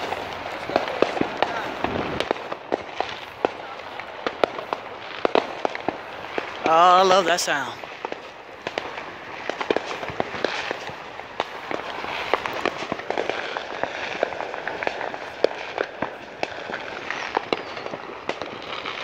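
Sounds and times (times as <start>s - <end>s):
fireworks popping and crackling: 0.0s - 19.0s
loud firework bangs: 0.0s - 19.0s.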